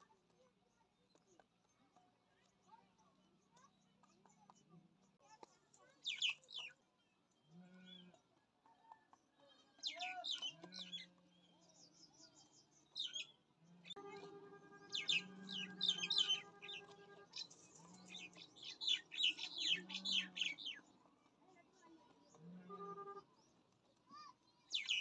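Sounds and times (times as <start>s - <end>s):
small birds chirping: 0.0s - 8.3s, 9.3s - 25.0s.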